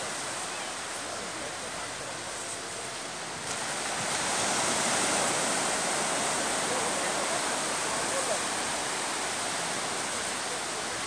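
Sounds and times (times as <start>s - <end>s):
sea surf breaking on beach: 0.0s - 11.0s.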